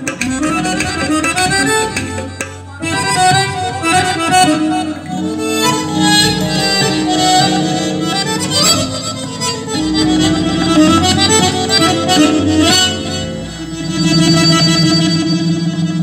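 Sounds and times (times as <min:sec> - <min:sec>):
button accordion melody: 0:00.0 - 0:16.0
electronic keyboard: 0:00.0 - 0:16.0.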